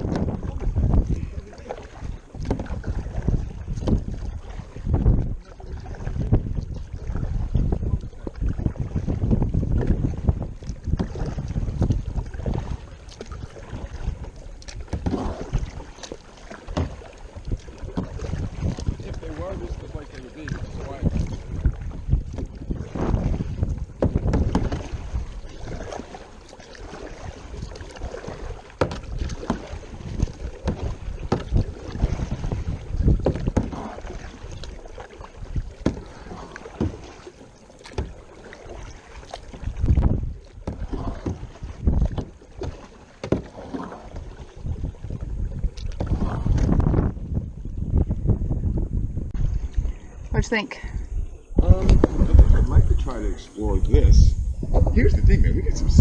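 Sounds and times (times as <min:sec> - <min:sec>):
water splashing: 0:00.0 - 0:56.0
wind rumbling on microphone: 0:00.0 - 0:56.0.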